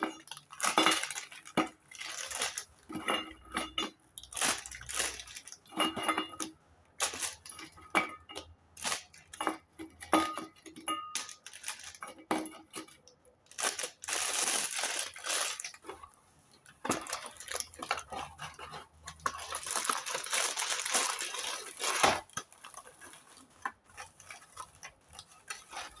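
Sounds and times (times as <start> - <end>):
utensils clicking and tapping: 0.0 - 16.1, 16.7 - 26.0.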